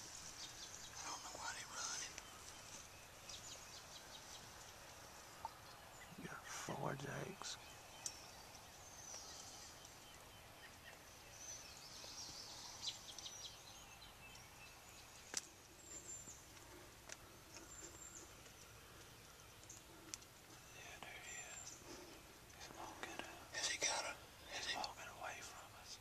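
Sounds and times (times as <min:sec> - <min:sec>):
songbird chirps: 0:00.0 - 0:26.0.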